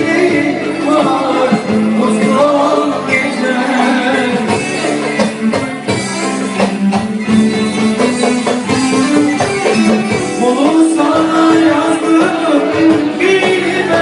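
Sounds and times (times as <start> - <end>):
pop song with percussion beat: 0.0 - 14.0.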